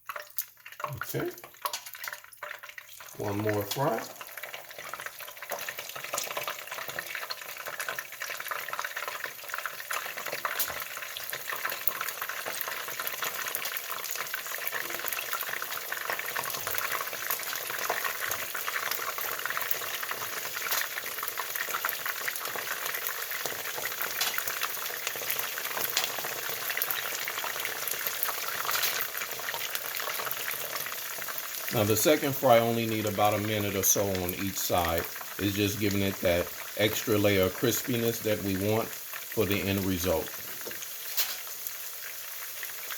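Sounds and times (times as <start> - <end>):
chicken frying in hot oil: 0.0 - 42.9.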